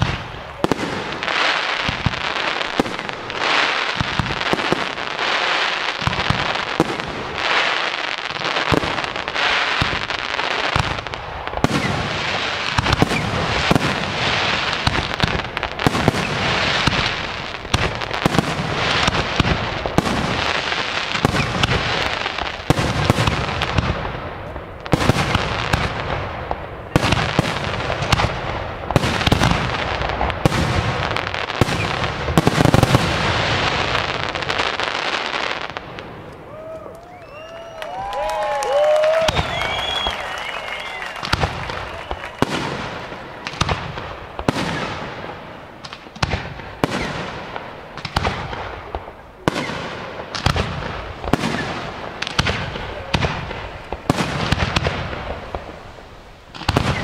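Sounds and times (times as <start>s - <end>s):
continuous firework hiss: 0.0s - 57.0s.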